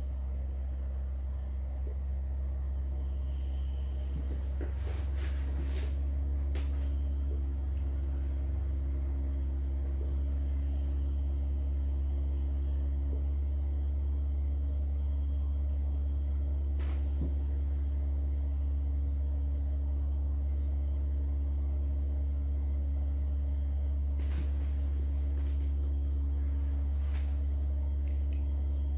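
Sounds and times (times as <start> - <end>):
subwoofer low tone: 0.0 - 28.9.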